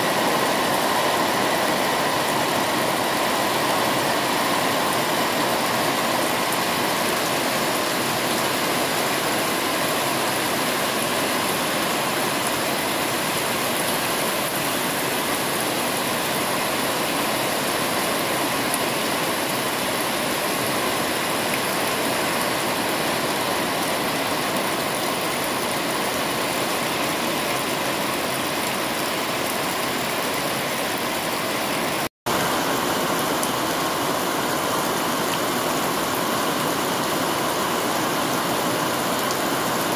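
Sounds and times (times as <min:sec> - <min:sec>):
heavy rain on foliage: 0:00.0 - 0:39.9
water streaming off roof: 0:00.0 - 0:39.9.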